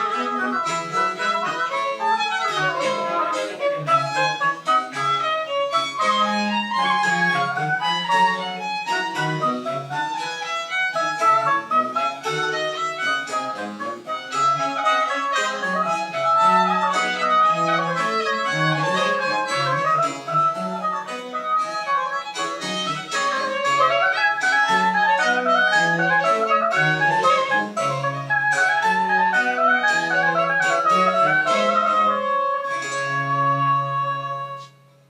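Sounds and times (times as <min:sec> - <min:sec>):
baroque chamber ensemble playing: 0:00.0 - 0:35.0.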